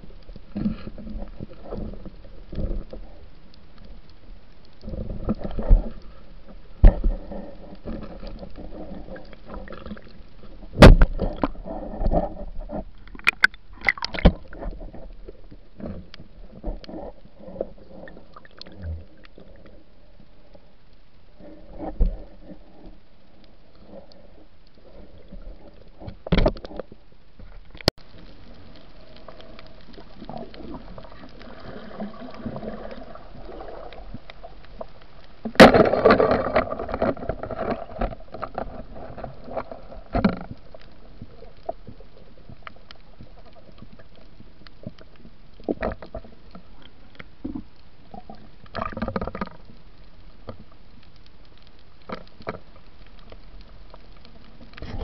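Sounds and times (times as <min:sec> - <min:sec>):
underwater sloshing and bubbling: 0:00.0 - 0:55.0
rush of water: 0:04.8 - 0:20.7, 0:21.4 - 0:49.8.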